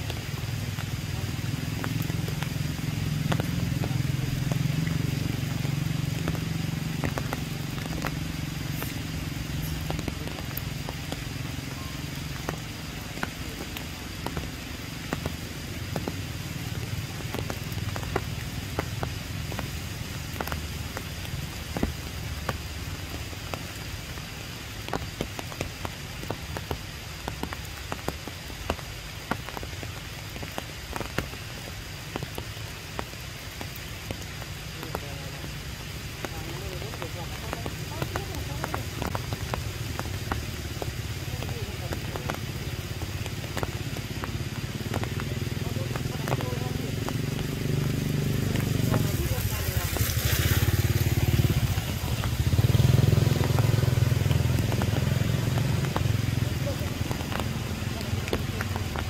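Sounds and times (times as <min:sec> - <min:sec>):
steady rain wash: 0:00.0 - 0:59.0.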